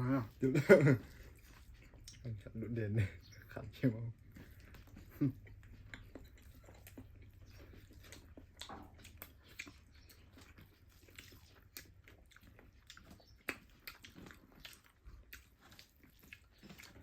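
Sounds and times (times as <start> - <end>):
chewing with wet mouth clicks: 1.0 - 17.0.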